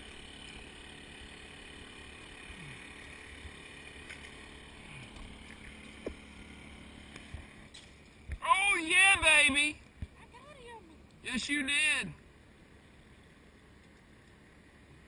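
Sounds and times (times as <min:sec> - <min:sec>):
boat motor hum: 0:00.0 - 0:15.0.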